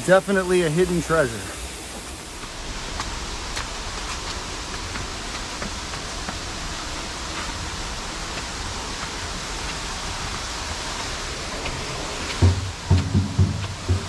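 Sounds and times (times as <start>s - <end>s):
waterfall rushing: 0.0s - 14.0s
faint footsteps on stone: 1.4s - 14.0s.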